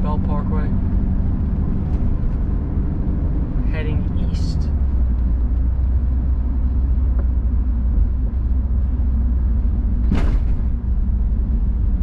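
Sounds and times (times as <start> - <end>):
car engine rumble: 0.0 - 12.0
tyre road noise: 0.0 - 12.0.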